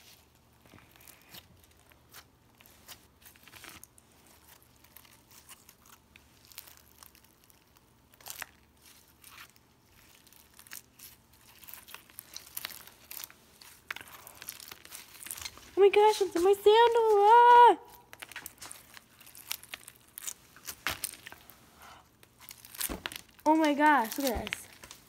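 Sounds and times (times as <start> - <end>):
slime crunching and crackling: 0.0 - 25.0.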